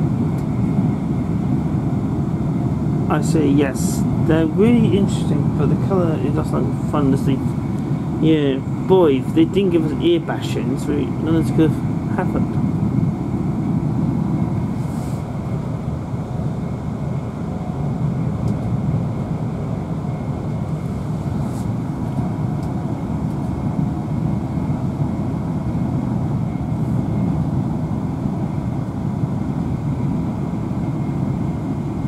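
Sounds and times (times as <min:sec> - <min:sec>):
rumble of wheels on rail: 0:00.0 - 0:32.0.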